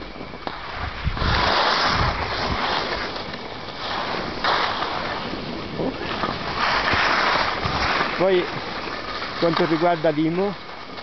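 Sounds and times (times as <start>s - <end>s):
wind gusting across microphone: 0.0s - 11.0s.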